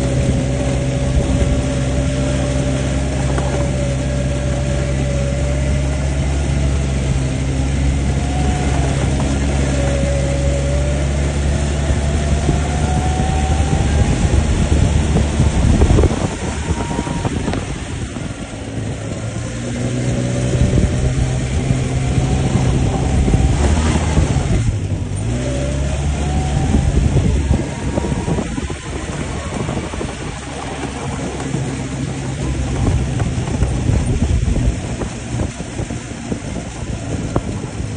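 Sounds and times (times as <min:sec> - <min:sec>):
atv engine running: 0:00.0 - 0:37.9.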